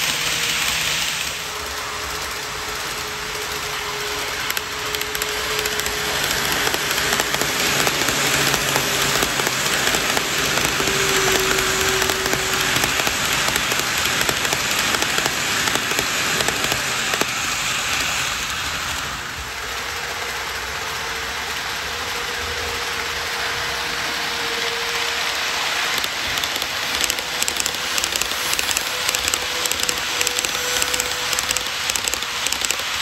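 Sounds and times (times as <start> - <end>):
model train wheels rattling: 0.0 - 33.0.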